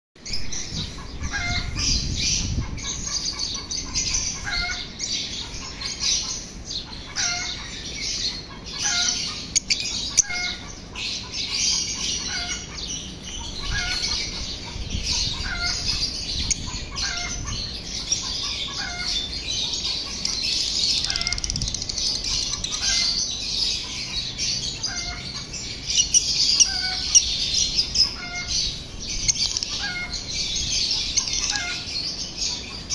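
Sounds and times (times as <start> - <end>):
lovebirds chirping: 0.2 - 32.9.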